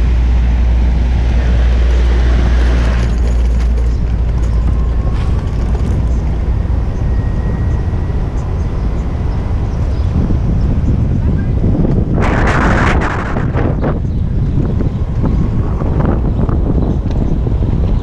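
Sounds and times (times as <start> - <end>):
street traffic noise: 0.0 - 18.0
wind rumbling on microphone: 0.0 - 18.0.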